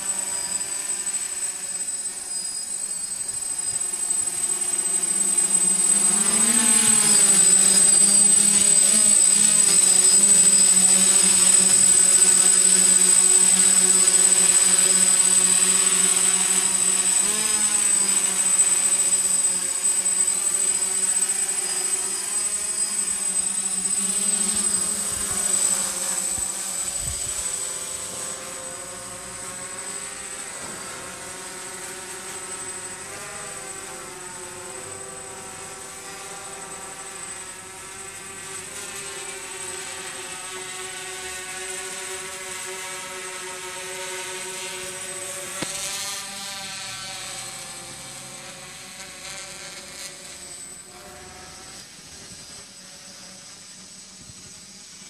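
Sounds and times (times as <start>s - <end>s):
drone motors buzzing and whining: 0.0s - 55.0s.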